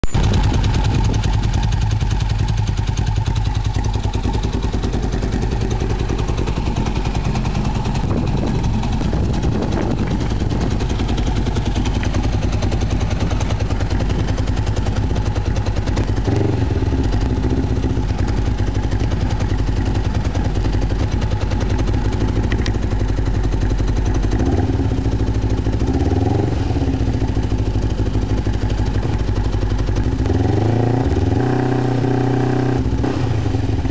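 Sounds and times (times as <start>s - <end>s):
engine throttle blips: 0.0s - 33.9s
motorcycle engine idling: 0.0s - 33.9s.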